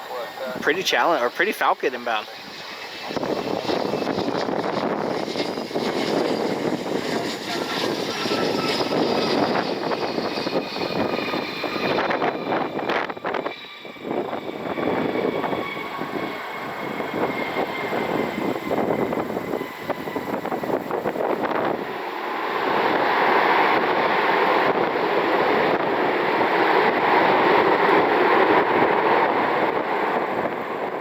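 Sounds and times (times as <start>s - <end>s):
jet engines rushing: 0.0s - 31.0s
wind buffeting microphone: 0.0s - 31.0s.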